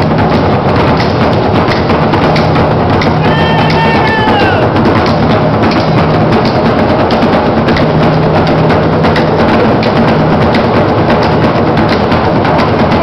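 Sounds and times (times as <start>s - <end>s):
group drumming: 0.0s - 13.0s
sharp wooden knocks: 0.0s - 13.0s.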